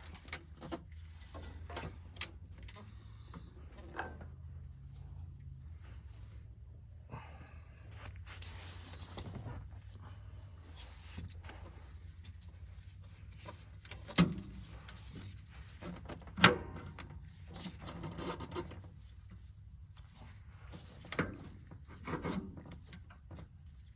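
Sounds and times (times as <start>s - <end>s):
rustling and scraping of tools: 0.0s - 6.8s, 7.4s - 23.9s.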